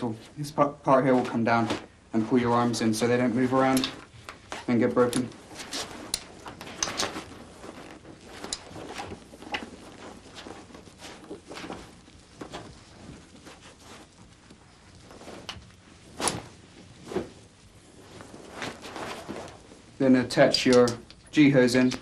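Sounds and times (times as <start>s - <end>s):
rustling of flying suit: 0.0s - 20.8s.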